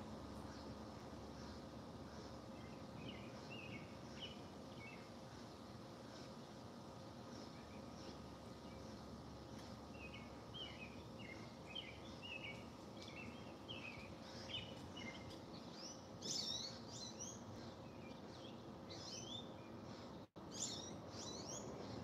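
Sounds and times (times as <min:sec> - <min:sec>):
small birds chirping: 0:00.0 - 0:22.0
steady background hum: 0:00.0 - 0:22.0.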